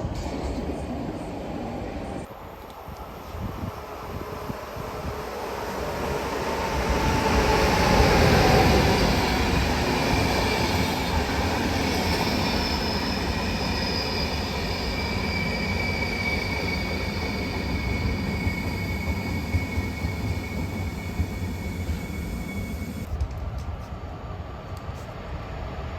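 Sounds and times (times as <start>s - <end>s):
train rumbling past: 0.0s - 25.9s.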